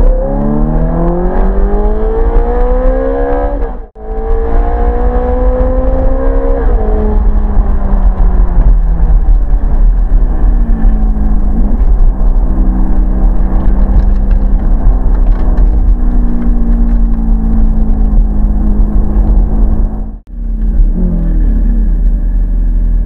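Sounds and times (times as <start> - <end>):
car engine from inside cabin: 0.0 - 23.0.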